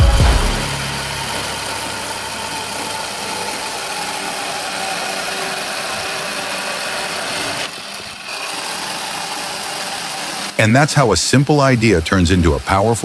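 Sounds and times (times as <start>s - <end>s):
electric chainsaw log cutter running: 0.0s - 13.0s.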